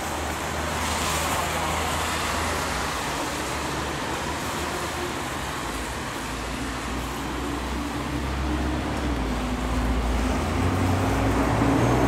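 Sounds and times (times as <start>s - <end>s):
heavy vehicle rumble: 0.0s - 12.0s
traffic on wet street: 0.0s - 12.0s.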